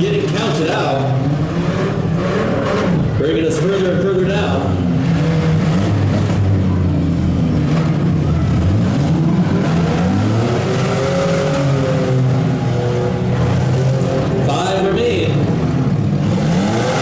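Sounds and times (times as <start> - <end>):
engines revving: 0.0 - 17.0.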